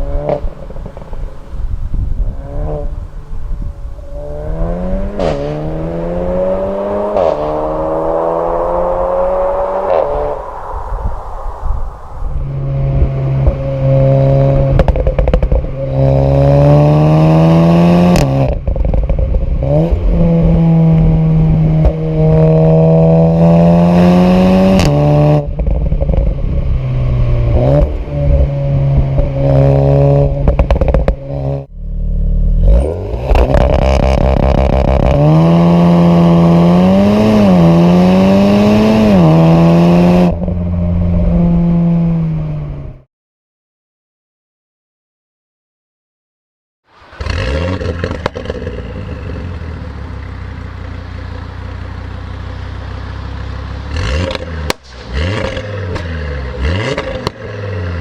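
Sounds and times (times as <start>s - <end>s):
exhaust crackle: 0.0s - 42.3s, 46.9s - 58.0s
car engine accelerating: 0.0s - 43.1s, 46.9s - 58.0s.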